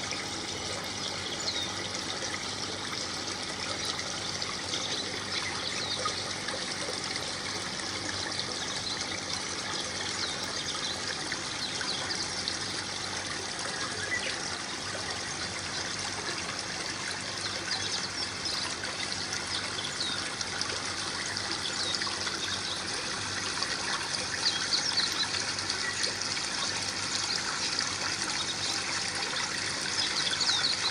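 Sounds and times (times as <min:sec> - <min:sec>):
small waterfall trickling and splashing: 0:00.0 - 0:30.9.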